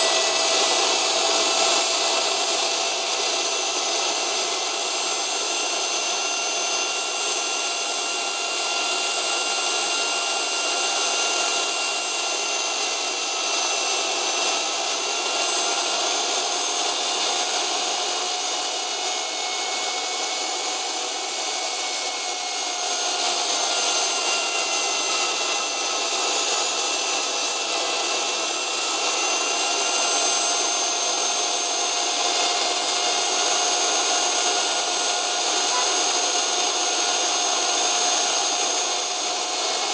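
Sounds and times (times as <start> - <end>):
jet engine turbine whine: 0.0 - 39.9.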